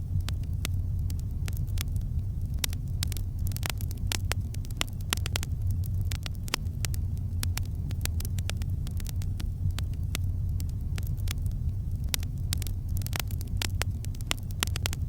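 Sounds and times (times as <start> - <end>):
flames rumbling: 0.0 - 15.0
wood crackling and popping: 0.0 - 15.0.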